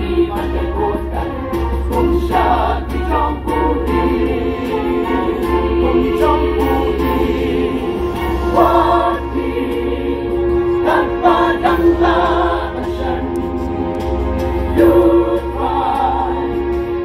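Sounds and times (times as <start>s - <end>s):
mixed choir singing: 0.0s - 17.0s.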